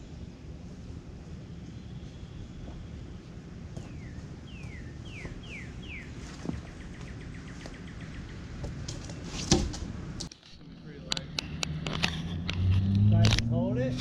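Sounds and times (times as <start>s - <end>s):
songbird singing: 0.0s - 11.9s
low background hum: 0.0s - 14.0s.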